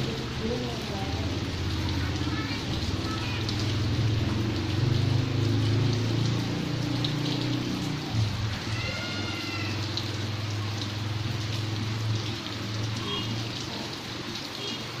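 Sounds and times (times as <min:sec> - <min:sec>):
rain falling and dripping: 0:00.0 - 0:15.0.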